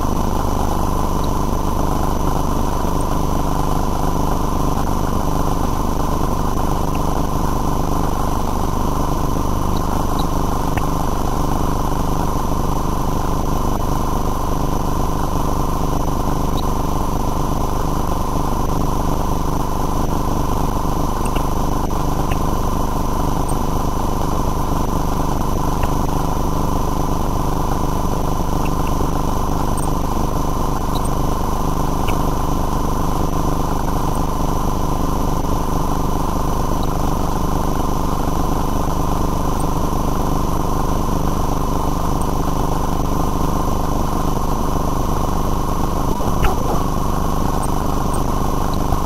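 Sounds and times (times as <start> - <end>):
machine drone with whine: 0.0 - 49.0.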